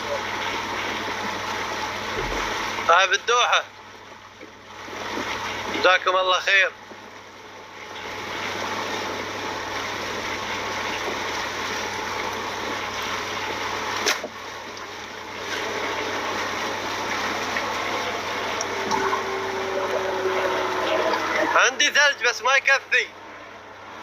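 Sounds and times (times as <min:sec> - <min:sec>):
water rushing and splashing: 0:00.0 - 0:24.0.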